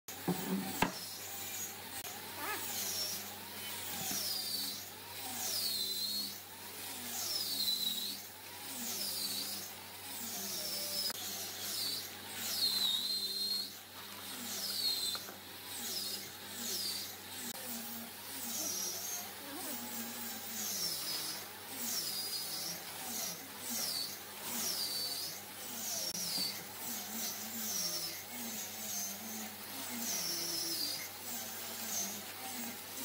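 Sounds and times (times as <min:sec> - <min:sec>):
wood lathe motor hum: 0:00.1 - 0:33.0
turning tool squealing: 0:00.2 - 0:33.0.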